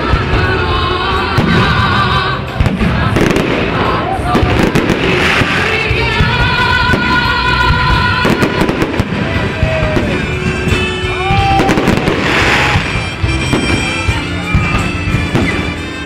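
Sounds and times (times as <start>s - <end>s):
fireworks crackling: 0.0s - 16.0s
music with held notes: 0.0s - 16.0s
fireworks bangs and pops: 1.3s - 16.0s.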